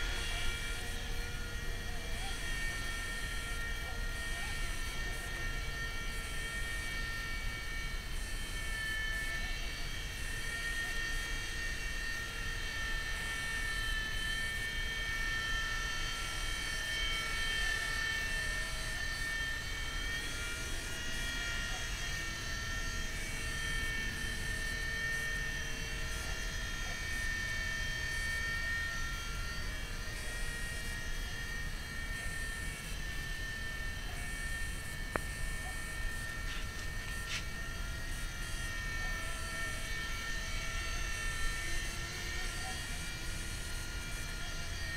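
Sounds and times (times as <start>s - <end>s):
toy helicopter rotor whine: 0.0s - 44.9s.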